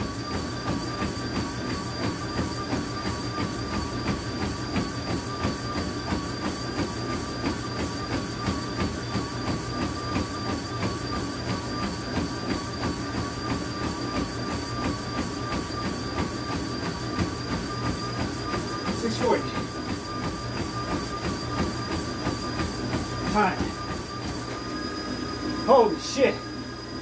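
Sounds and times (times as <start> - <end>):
running footfalls on treadmill belt: 0.0 - 27.0
treadmill motor whine: 0.0 - 27.0.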